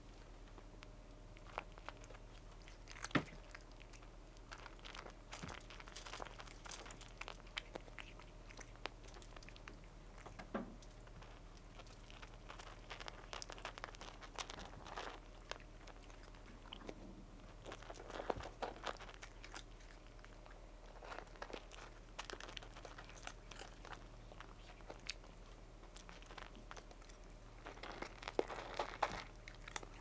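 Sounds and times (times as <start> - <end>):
cat crunching dry kibble: 0.0 - 30.0.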